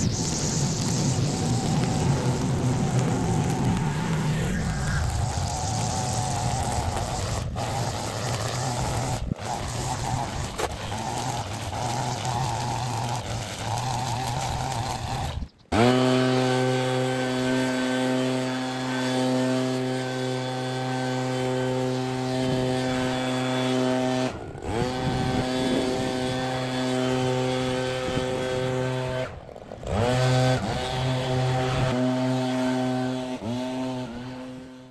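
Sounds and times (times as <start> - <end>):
leaf blower engine at high throttle: 0.0 - 34.9
string trimmer running: 0.0 - 34.9.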